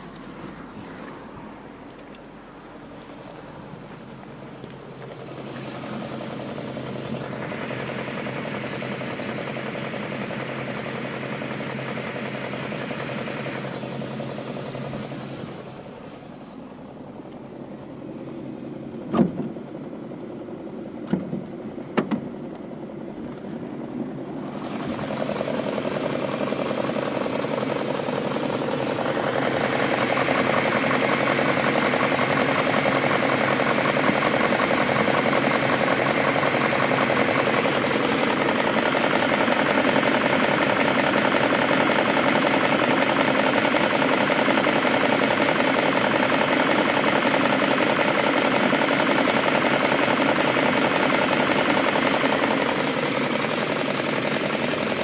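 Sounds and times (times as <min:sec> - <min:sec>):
car engine idling: 0:00.0 - 0:55.0
engine tapping: 0:01.8 - 0:55.0
engine ticking: 0:01.9 - 0:16.0, 0:23.8 - 0:55.0.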